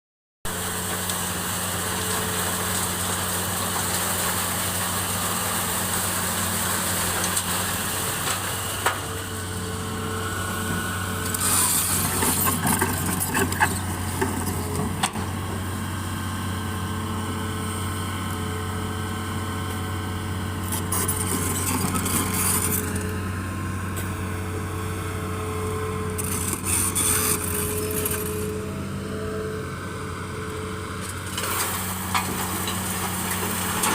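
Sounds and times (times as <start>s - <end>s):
machinery engine humming: 0.5s - 33.9s.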